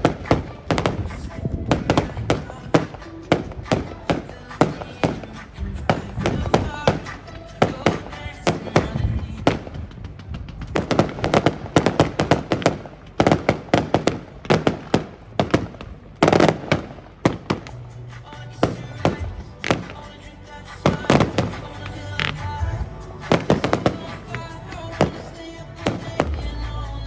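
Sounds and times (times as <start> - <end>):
fireworks bangs and crackling: 0.0 - 27.0
music playing: 0.0 - 27.0.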